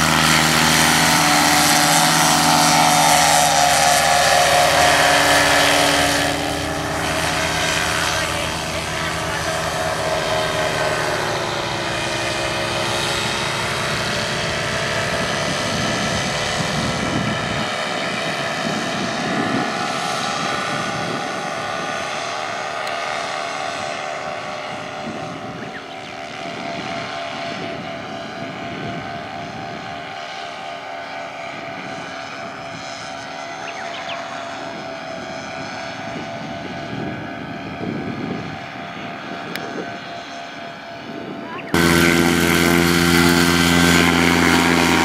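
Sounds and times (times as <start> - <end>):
paramotor engine droning overhead: 0.0 - 45.0.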